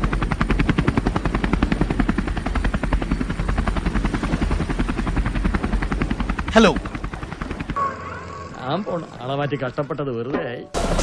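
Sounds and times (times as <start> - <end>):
helicopter engine drone: 0.0 - 10.1, 10.8 - 11.0
helicopter rotor chopping: 0.0 - 11.0.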